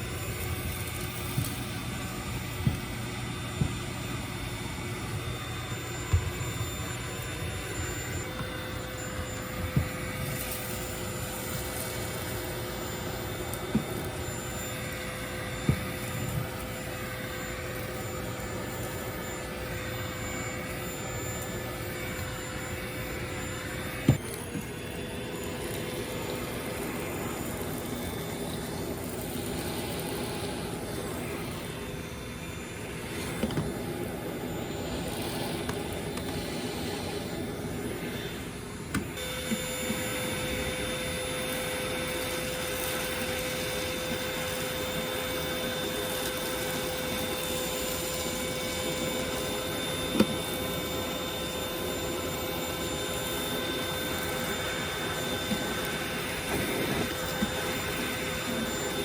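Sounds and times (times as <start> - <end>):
vacuum cleaner whine: 0.0 - 59.0.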